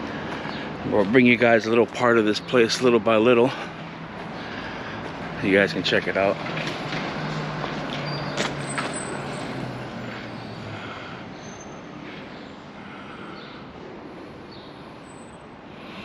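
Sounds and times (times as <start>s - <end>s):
low rush of traffic: 0.0s - 16.0s
vehicle passing: 0.0s - 16.0s.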